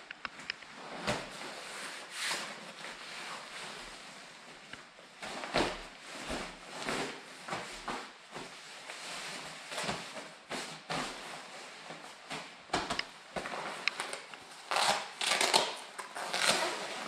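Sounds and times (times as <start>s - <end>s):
jacket rustling: 0.1s - 15.6s.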